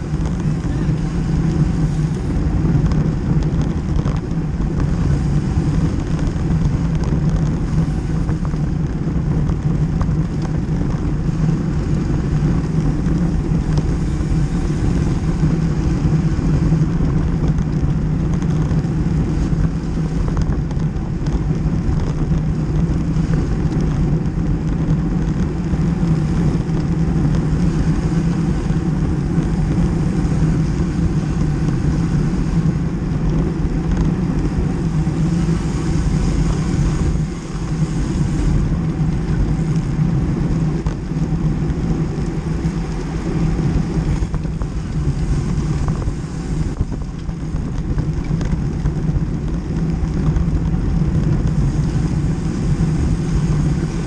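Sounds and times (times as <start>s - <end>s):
tyres rolling on rough asphalt: 0.0s - 54.0s
wind buffeting microphone: 0.0s - 54.0s.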